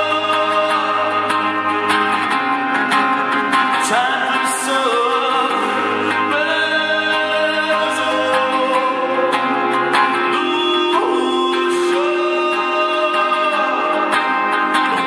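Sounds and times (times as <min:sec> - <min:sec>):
man singing: 0:00.0 - 0:01.8, 0:03.5 - 0:15.0
strummed ukulele: 0:00.0 - 0:15.0.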